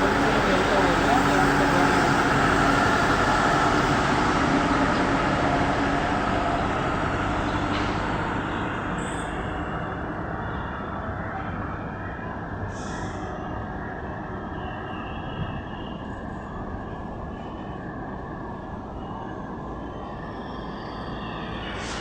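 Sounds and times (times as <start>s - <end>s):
diesel train running: 0.0s - 22.0s.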